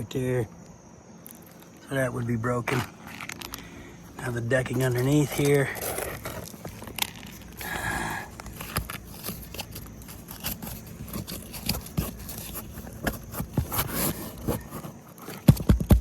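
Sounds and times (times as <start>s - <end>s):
roof shingles scraping and crackling: 1.6s - 16.0s.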